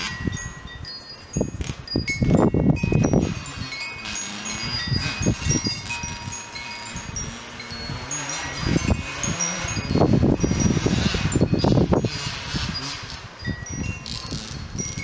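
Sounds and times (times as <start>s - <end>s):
metal wind chimes ringing: 0.0s - 15.0s.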